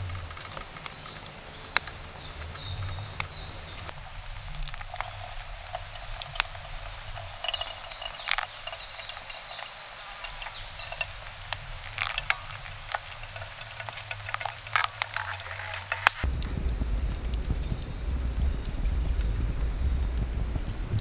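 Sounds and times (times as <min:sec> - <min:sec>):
wet coffee grounds crackling: 0:00.0 - 0:21.0
hot water pouring from kettle: 0:03.8 - 0:21.0.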